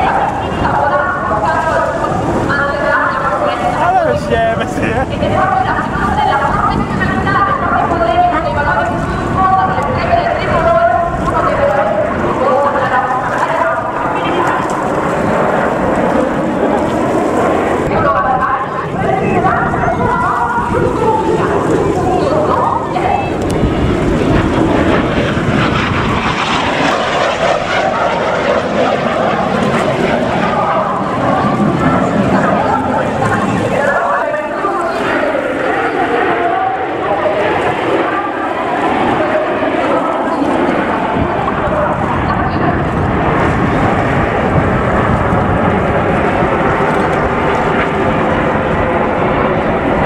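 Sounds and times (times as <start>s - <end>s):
jet aircraft flying past: 0.0s - 50.0s.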